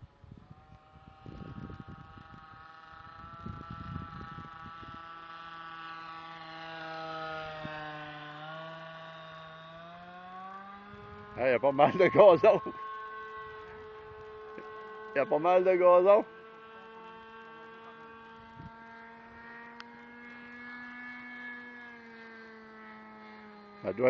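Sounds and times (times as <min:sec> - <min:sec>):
model airplane engine buzzing: 0:00.0 - 0:24.0.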